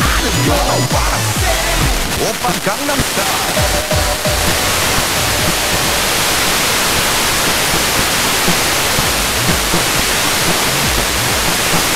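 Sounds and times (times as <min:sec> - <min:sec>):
faint radio station audio: 0:00.0 - 0:11.9
radio receiver hiss: 0:00.0 - 0:11.9.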